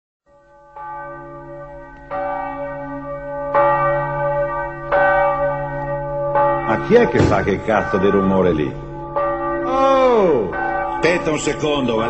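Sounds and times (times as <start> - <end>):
church bell tolling: 0.3 - 12.0.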